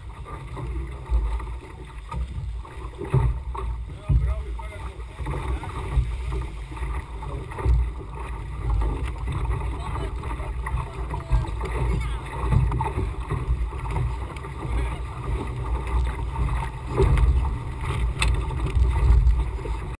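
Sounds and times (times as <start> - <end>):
water splashing along hull: 0.0 - 20.0.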